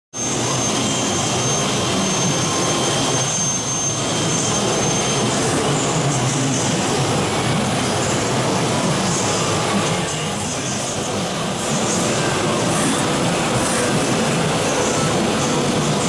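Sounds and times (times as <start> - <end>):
high steady spindle whine: 0.2 - 16.0
machine noise: 0.2 - 16.0.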